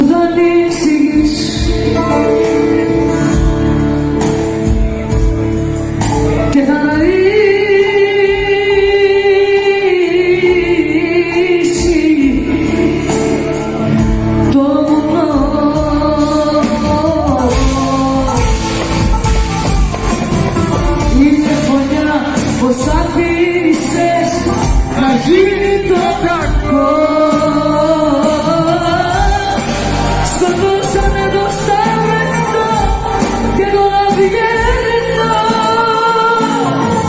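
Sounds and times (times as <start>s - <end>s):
band with steady drum beat: 0.0s - 37.0s.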